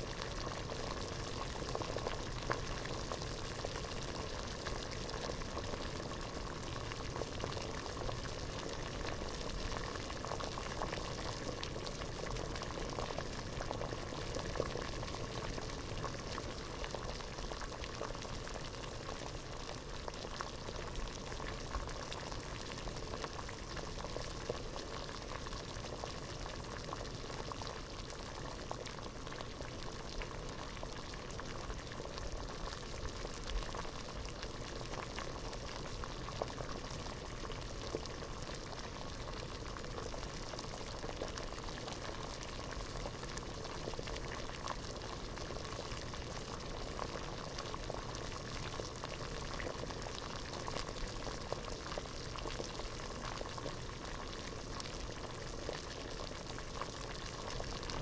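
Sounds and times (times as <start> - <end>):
water boiling in a pot: 0.0 - 58.0.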